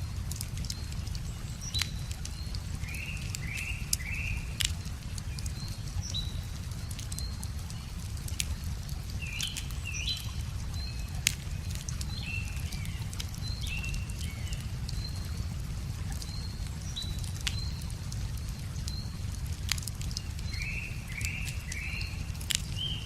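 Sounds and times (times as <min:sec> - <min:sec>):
songbird chirping: 0:00.0 - 0:23.0
wood fire crackling and popping: 0:00.0 - 0:23.0.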